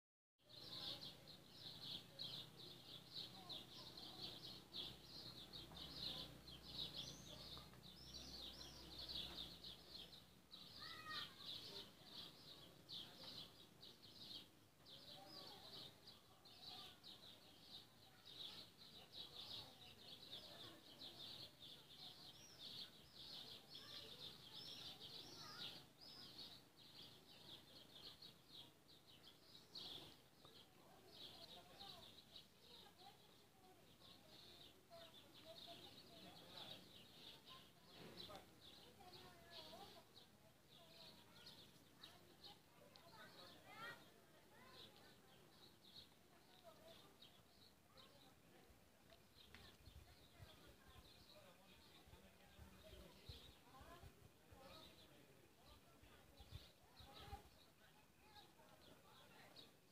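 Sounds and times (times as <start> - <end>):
songbirds chirping and twittering: 0.4 - 59.9.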